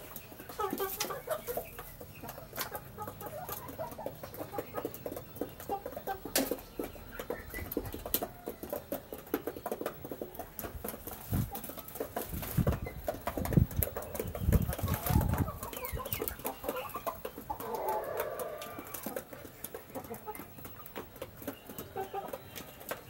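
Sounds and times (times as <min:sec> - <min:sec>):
chickens clucking and peeping: 0:00.0 - 0:23.0.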